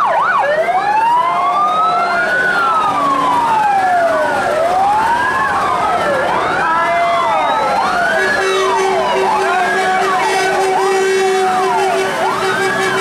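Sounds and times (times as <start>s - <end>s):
fire truck sirens wailing: 0.0s - 13.0s.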